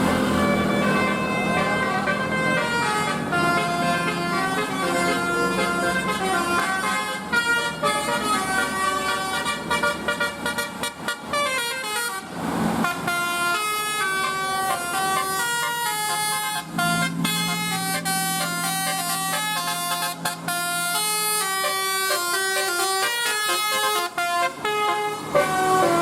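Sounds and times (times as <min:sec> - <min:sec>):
multi-tone bus air horns: 0:00.0 - 0:26.0.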